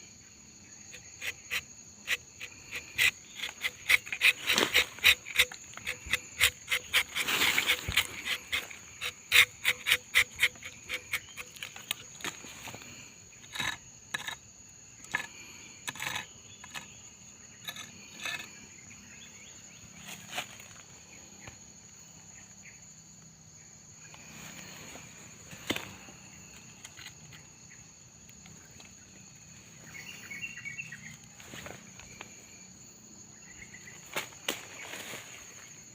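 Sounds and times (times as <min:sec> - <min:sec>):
insects calling high-pitched tones: 0:00.0 - 0:35.9.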